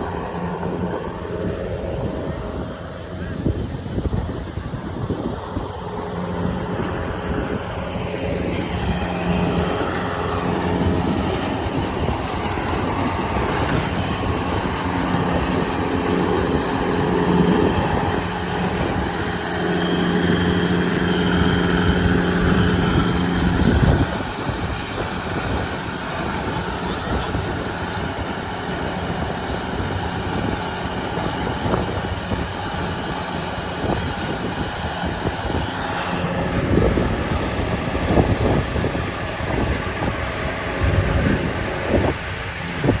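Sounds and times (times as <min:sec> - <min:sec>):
diesel engine drone: 0:00.0 - 0:43.0.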